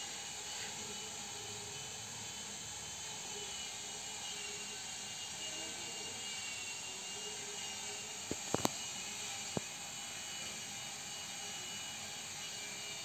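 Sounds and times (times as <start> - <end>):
steady whirring hiss: 0.0 - 13.0.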